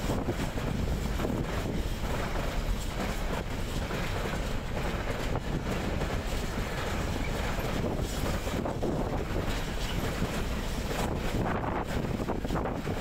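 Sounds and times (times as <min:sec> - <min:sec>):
train wagons rolling on rails: 0:00.0 - 0:13.0
wind buffeting microphone: 0:00.0 - 0:13.0.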